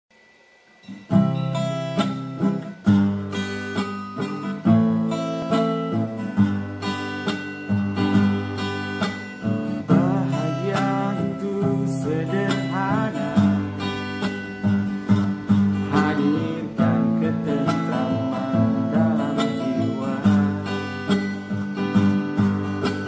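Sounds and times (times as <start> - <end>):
acoustic guitar strummed: 0.2 - 23.0.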